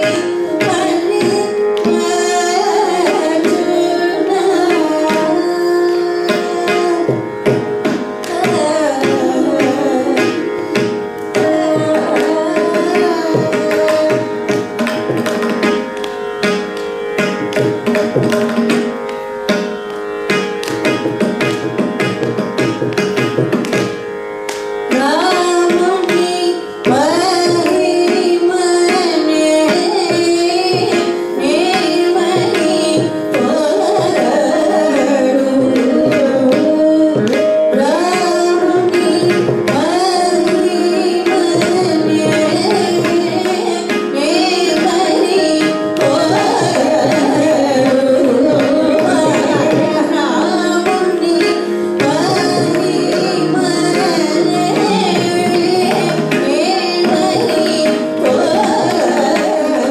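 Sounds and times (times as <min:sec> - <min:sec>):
woman singing: 0:00.0 - 0:15.8, 0:24.9 - 0:59.9
mridangam drum strokes: 0:00.0 - 0:59.9.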